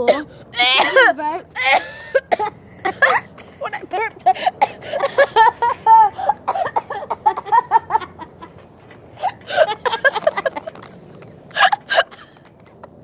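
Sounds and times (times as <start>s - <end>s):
girls laughing: 0.6s - 12.5s.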